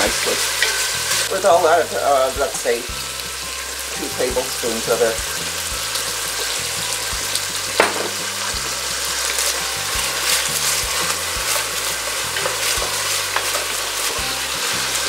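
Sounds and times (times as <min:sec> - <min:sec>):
meat sizzling in fat: 0:00.0 - 0:15.0.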